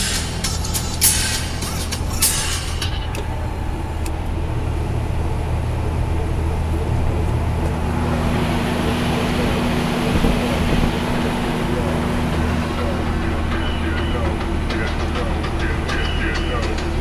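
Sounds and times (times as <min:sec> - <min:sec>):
diesel truck engine drone: 0:00.0 - 0:17.0
higher steady hum: 0:00.0 - 0:17.0.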